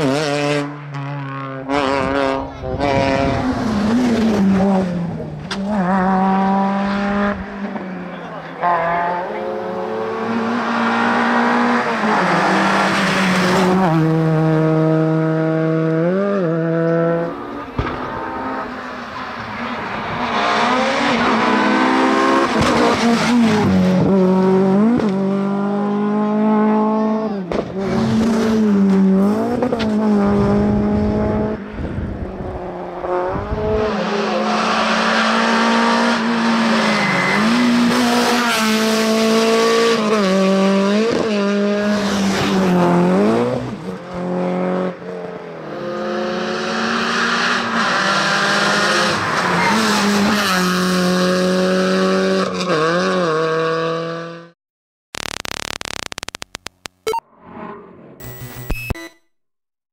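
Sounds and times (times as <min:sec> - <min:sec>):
rally car engines revving: 0:00.0 - 0:54.6.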